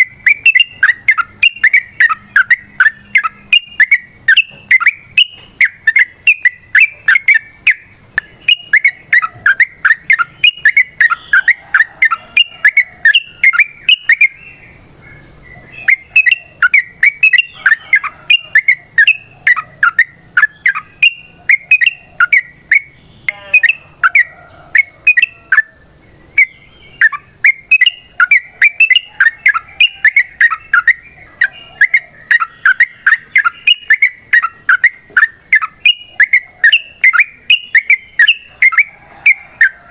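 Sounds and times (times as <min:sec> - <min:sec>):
bird chattering chirps: 0:00.0 - 0:25.7, 0:26.4 - 0:38.9.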